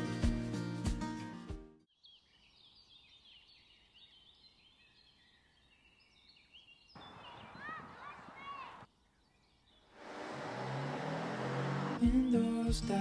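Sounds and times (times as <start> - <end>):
songbirds chirping: 1.9 - 13.0.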